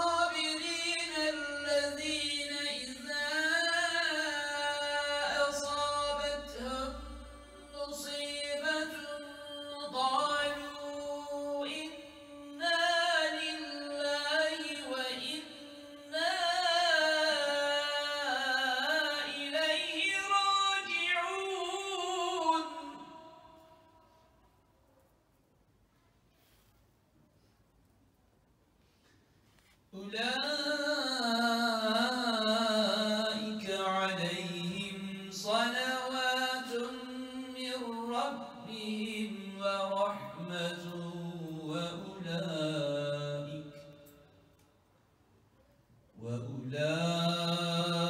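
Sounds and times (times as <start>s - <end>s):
man chanting religious recitation: 0.0s - 23.4s, 29.9s - 44.1s, 46.2s - 48.0s.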